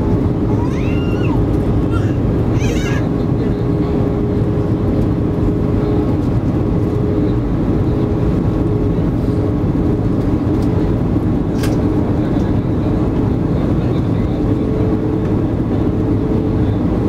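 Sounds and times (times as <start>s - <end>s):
steady hum: 0.0s - 15.9s
airplane cabin engine roar: 0.0s - 17.0s.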